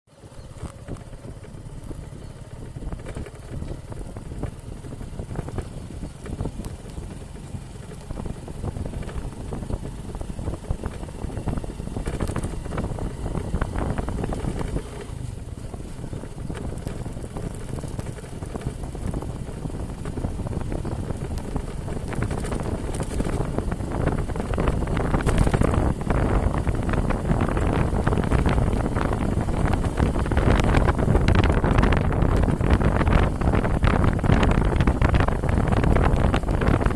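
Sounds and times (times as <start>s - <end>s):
off-road motorcycle running: 0.1s - 36.9s
wind buffeting microphone: 0.2s - 36.9s.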